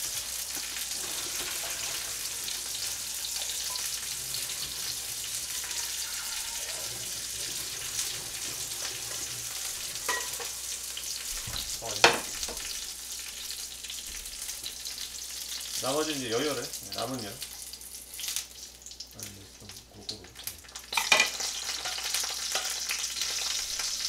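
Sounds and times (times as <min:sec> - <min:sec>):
dumplings sizzling in frying pan: 0:00.0 - 0:24.0.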